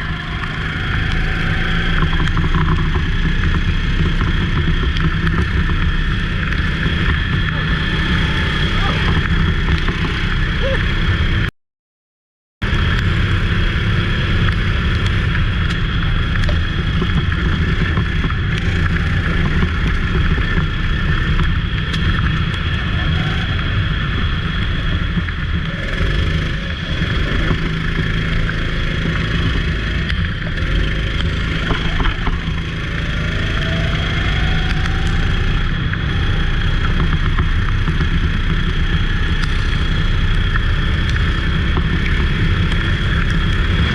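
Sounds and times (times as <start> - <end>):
go-kart engine droning: 0.0 - 11.5, 12.6 - 43.9.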